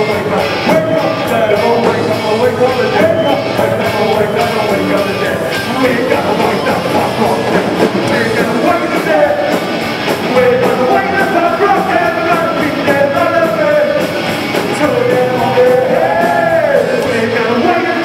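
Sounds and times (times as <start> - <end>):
punk band playing live: 0.0 - 18.0.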